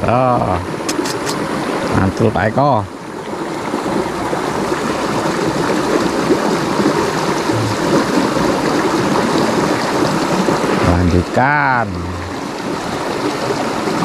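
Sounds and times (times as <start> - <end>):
river flowing over stones: 0.7 - 2.0, 2.9 - 14.0.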